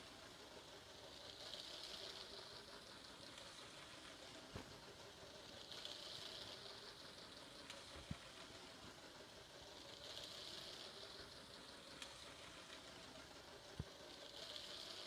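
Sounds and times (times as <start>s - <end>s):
toy train whirring: 0.0s - 15.0s.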